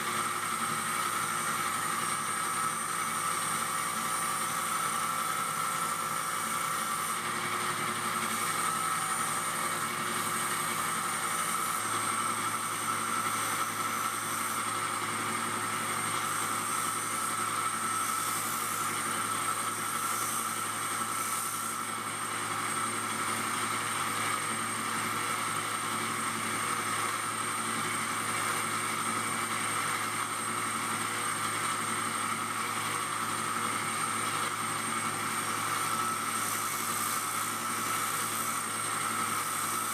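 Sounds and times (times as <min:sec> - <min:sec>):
disc grinder whirring: 0:00.0 - 0:39.9.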